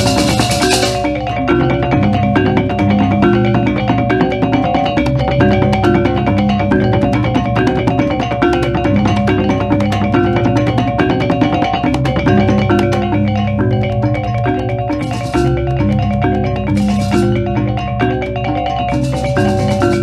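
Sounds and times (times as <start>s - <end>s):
steady bass line: 0.0s - 20.0s.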